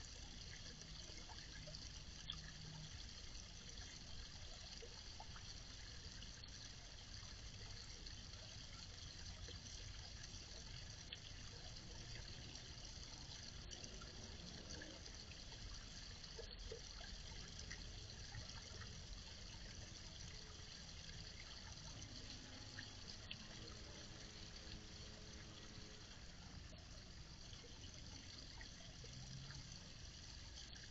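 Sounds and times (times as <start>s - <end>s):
faint waterfall trickling into pond: 0.0s - 30.9s.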